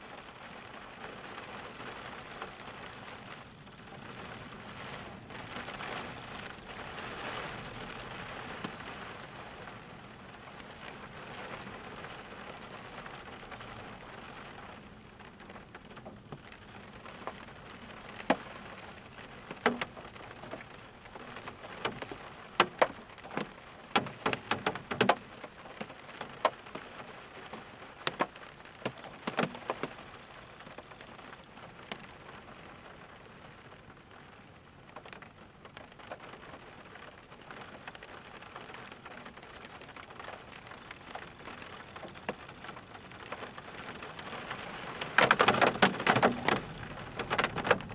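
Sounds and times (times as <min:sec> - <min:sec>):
rain hiss: 0:00.0 - 0:47.9.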